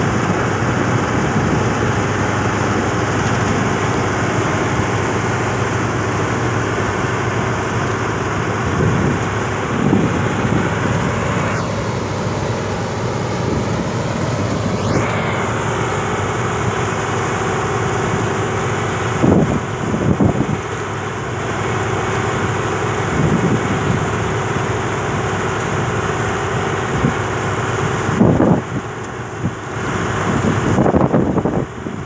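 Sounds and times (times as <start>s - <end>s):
wind gusts on microphone: 0.0s - 24.8s, 26.7s - 32.0s
combine harvester drone: 0.0s - 32.0s.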